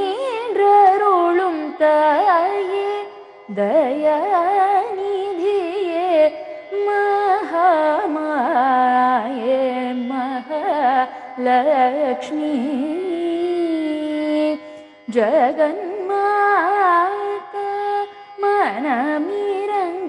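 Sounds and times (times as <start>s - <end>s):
woman singing devotional song: 0.0s - 20.0s.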